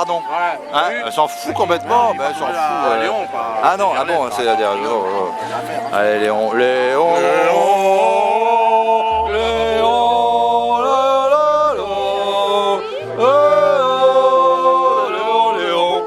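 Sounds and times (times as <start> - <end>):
person singing long held notes: 1.4 - 16.0.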